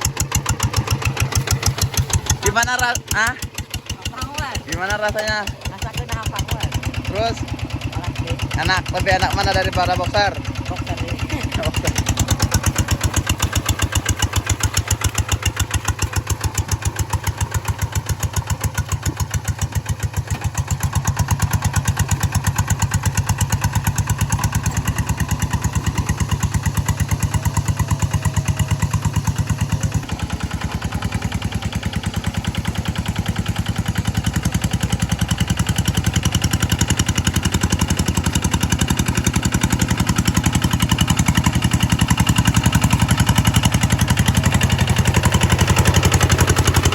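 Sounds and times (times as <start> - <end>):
hand tractor engine chugging: 0.0 - 46.9.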